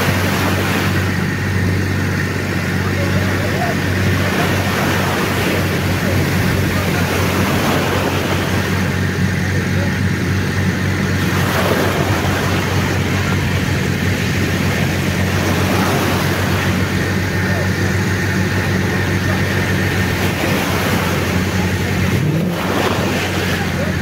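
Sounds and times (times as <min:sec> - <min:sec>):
surf breaking: 0:00.0 - 0:24.0
tractor engine running: 0:00.0 - 0:24.0.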